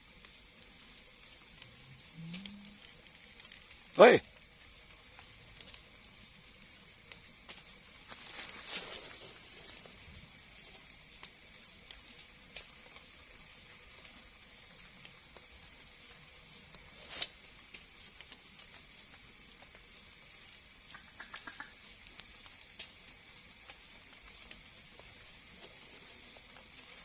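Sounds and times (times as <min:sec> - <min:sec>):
faint high hiss: 0:00.0 - 0:27.0.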